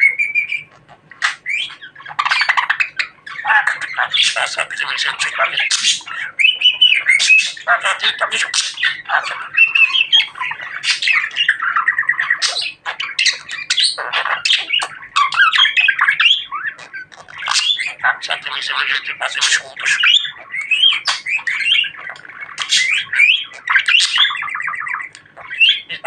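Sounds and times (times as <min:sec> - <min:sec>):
budgerigar chattering: 0:00.0 - 0:26.0.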